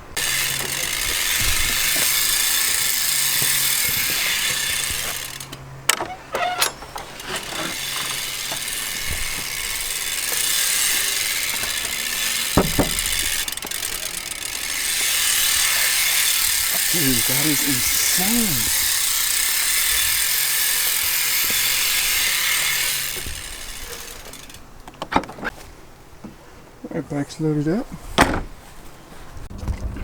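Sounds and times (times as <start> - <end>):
bike hub ratchet buzzing: 0.0 - 24.7.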